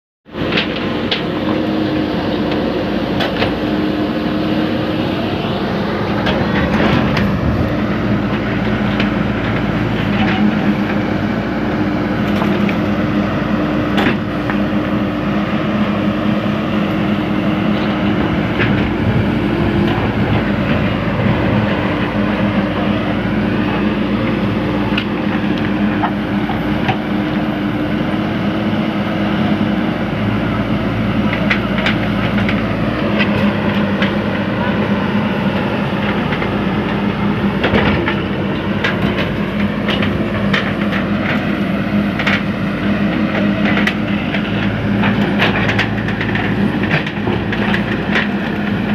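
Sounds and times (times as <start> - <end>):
digger diesel engine running: 0.3 - 48.9.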